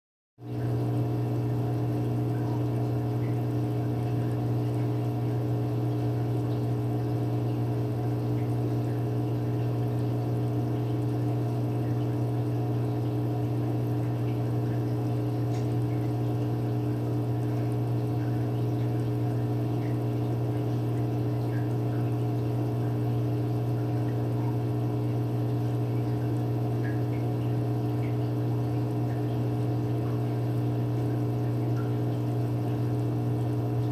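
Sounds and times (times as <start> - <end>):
aquarium pump humming: 0.4 - 33.9.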